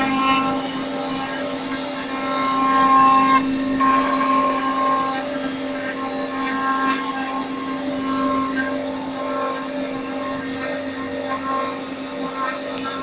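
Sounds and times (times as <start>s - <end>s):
cnc router spindle whine: 0.0s - 13.0s
cutting tone of router tool: 0.0s - 13.0s.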